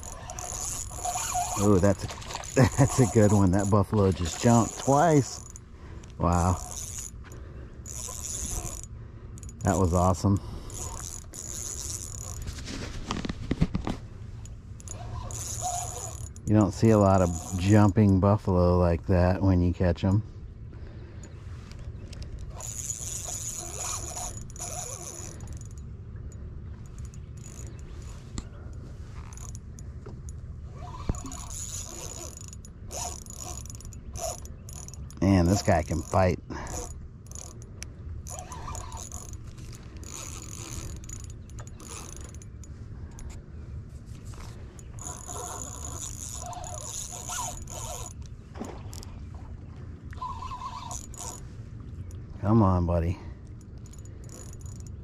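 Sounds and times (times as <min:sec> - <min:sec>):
fishing reel whirring: 0:00.0 - 0:12.6, 0:14.4 - 0:18.2, 0:21.2 - 0:43.4, 0:44.2 - 0:49.2, 0:50.1 - 0:52.2, 0:53.4 - 0:55.0.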